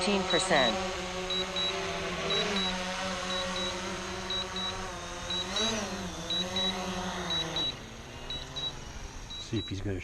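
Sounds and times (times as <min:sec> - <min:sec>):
drone propellers humming: 0:00.0 - 0:10.0.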